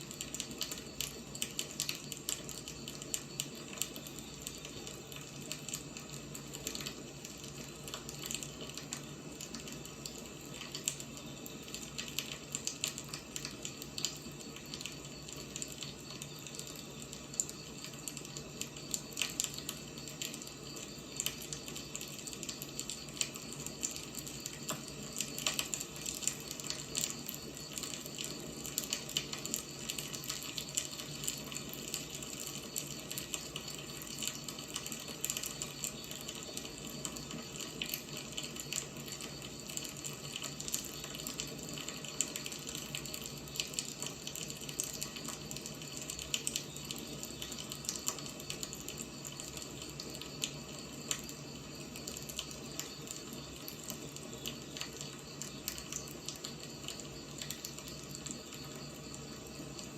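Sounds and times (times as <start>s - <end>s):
firewood crackling and popping: 0.0s - 59.9s.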